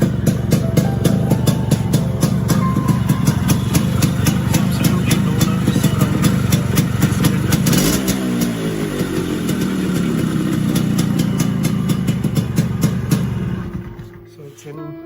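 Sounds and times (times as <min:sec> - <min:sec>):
two-stroke motorcycle engine idling: 0:00.0 - 0:14.3.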